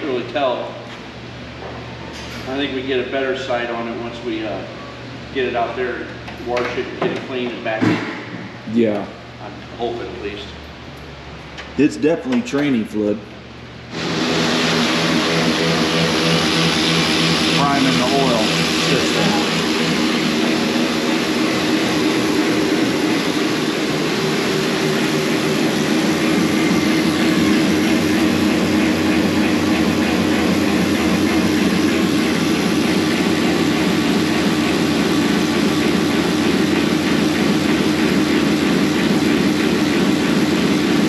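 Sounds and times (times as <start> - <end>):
motor running steadily: 0.0 - 41.0.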